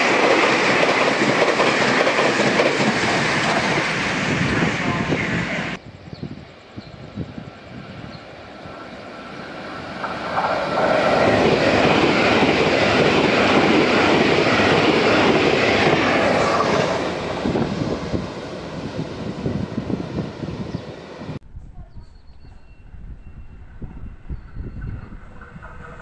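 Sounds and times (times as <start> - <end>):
train passing at high speed: 0.0 - 21.4, 23.2 - 26.0.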